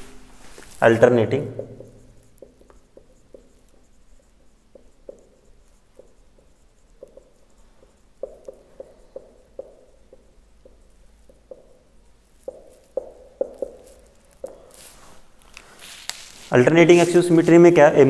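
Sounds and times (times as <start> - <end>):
marker writing on whiteboard: 0.4 - 18.0.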